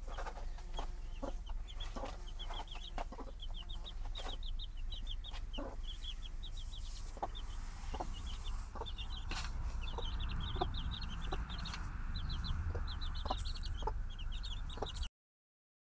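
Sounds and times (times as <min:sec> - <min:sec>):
chicks peeping: 0:00.0 - 0:15.1
hen clucking: 0:00.0 - 0:15.1.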